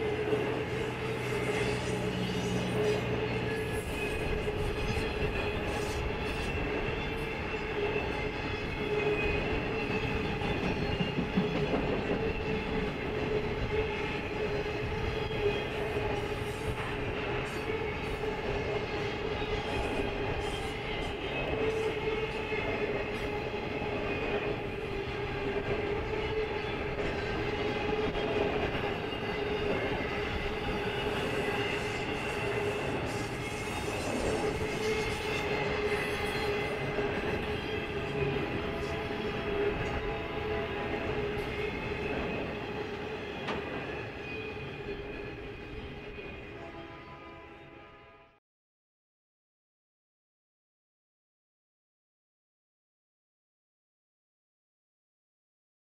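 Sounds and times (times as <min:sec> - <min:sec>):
train wheels rumbling on rails: 0:00.0 - 0:46.6.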